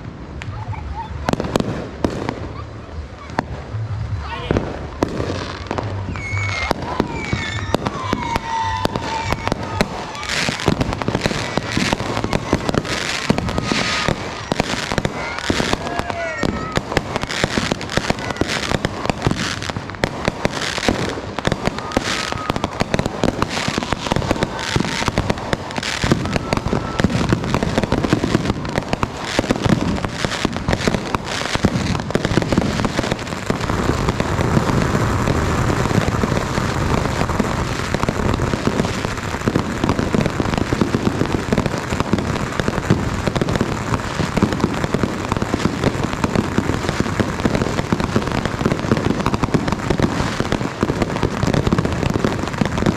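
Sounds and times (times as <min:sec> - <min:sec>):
firecrackers crackling: 0:00.0 - 0:52.9
fireworks bangs and pops: 0:00.0 - 0:52.9
firework whistles: 0:04.5 - 0:52.9.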